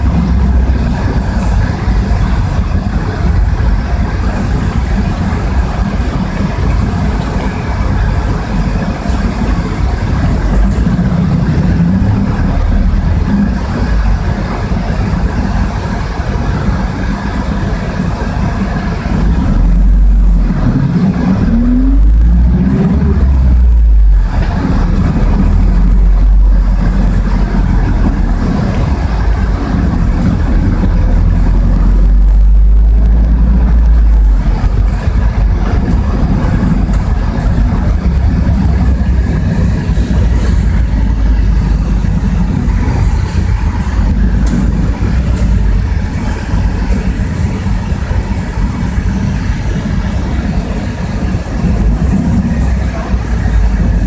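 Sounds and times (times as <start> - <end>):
bus diesel engine rumbling: 0.0 - 54.0
road noise: 0.0 - 54.0.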